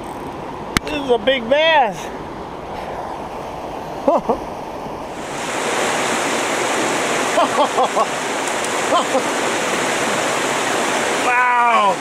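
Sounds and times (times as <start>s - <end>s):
rushing water from rapids: 1.9s - 12.0s.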